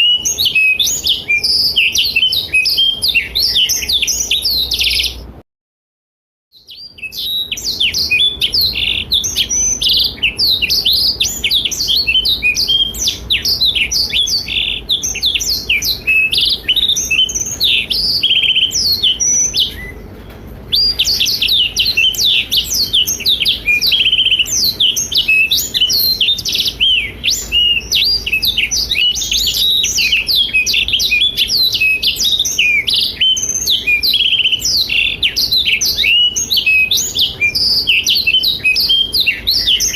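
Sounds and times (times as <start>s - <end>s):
canary twittering song: 0.0s - 5.4s, 6.5s - 39.9s.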